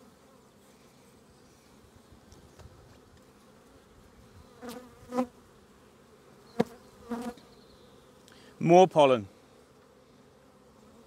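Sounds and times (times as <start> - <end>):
bee buzzing close by: 0.0 - 11.0
bees humming around hive: 0.0 - 11.0.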